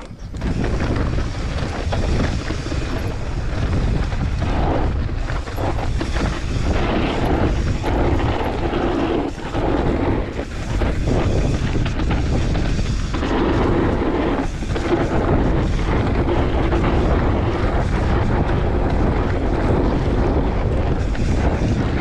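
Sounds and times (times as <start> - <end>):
bike rattling on rough trail: 0.0 - 22.0
wind rushing over microphone: 0.0 - 22.0.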